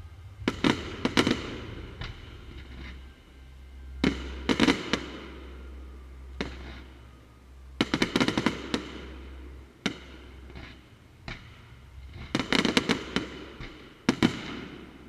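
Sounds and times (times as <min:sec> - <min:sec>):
steady low hum: 0:00.0 - 0:15.0
firework bangs and crackling: 0:00.4 - 0:03.2, 0:04.0 - 0:05.7, 0:06.4 - 0:07.0, 0:07.8 - 0:15.0.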